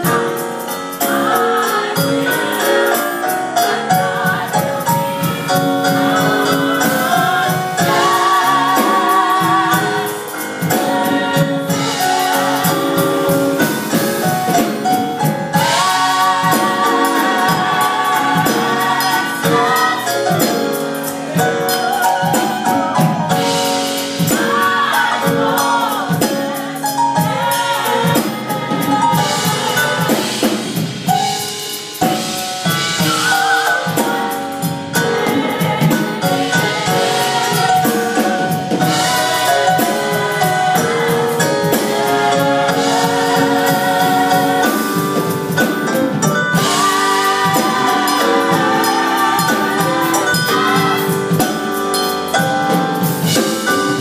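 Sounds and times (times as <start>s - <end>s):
drum kit: 0.0s - 54.0s
gospel choir singing: 0.0s - 54.0s.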